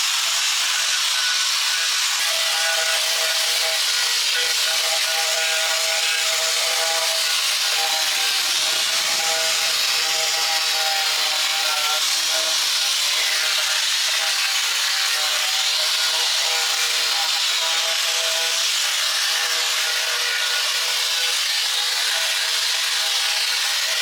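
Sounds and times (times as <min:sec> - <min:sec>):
power tool abrading a surface: 0:00.0 - 0:24.0.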